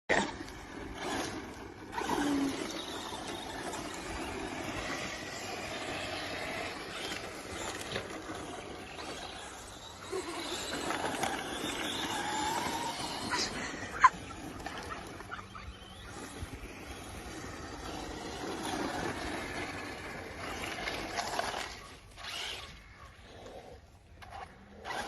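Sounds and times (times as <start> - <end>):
radio-controlled car running: 0.1 - 25.0.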